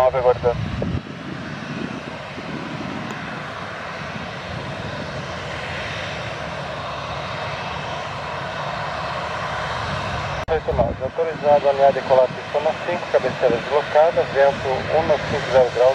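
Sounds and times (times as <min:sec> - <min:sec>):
jet engines idling: 0:00.0 - 0:15.9.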